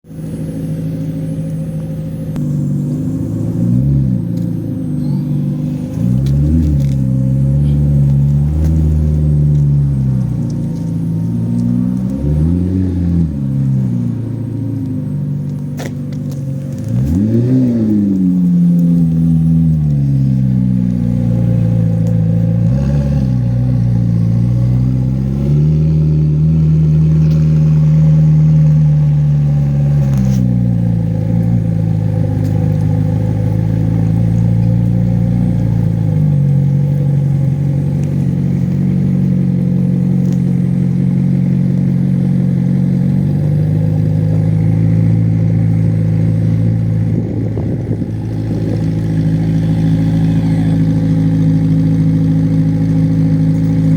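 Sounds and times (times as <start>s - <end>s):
sports car engine idling: 0.1s - 53.9s.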